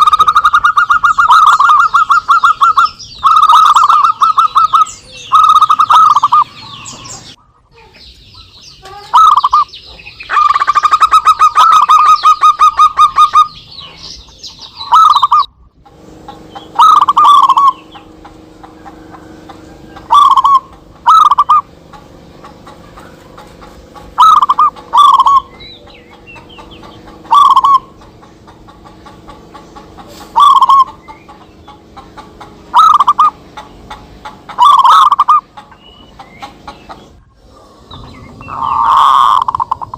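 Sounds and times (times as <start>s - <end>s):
doves cooing: 0.0s - 7.7s, 8.4s - 39.9s.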